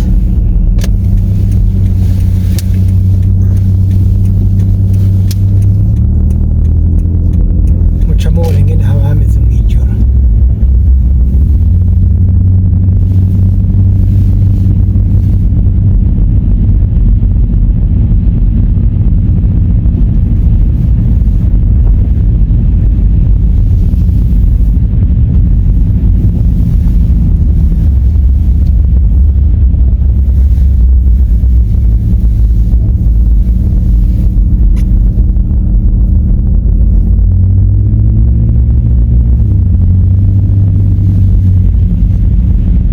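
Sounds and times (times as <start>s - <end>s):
car engine and tyres rumbling: 0.0s - 42.9s.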